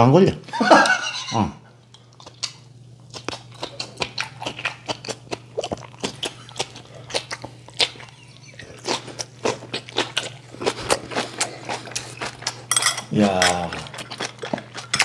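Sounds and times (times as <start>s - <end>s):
man chewing with wet smacks: 1.9s - 12.7s, 13.5s - 15.0s.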